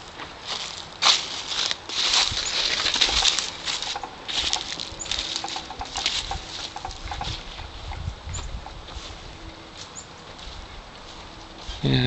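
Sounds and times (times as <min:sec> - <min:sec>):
scuffing footsteps outdoors: 0:00.0 - 0:12.0.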